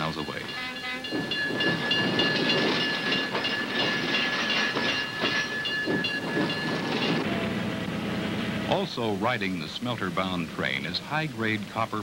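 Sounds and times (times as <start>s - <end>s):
freight cars rumbling on track: 0.0s - 12.0s.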